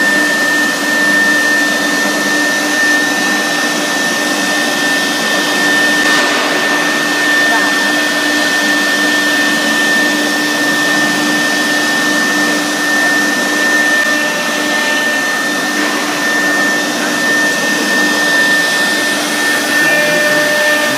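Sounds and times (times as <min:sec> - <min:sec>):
cnc router spindle whining: 0:00.0 - 0:20.9
router cutting board rushing noise: 0:01.8 - 0:20.9.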